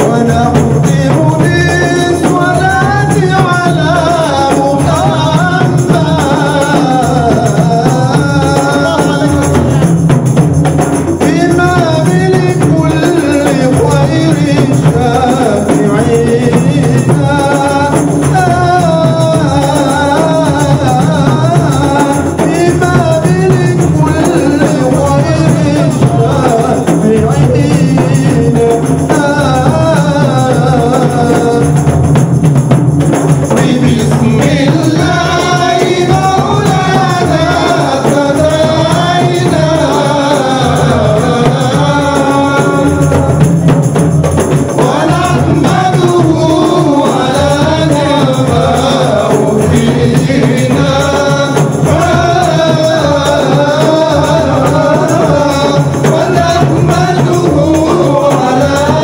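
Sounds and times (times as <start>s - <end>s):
frame drums: 0.0s - 59.0s
lead singer on microphone: 0.0s - 59.0s
men singing devotional song: 0.0s - 59.0s.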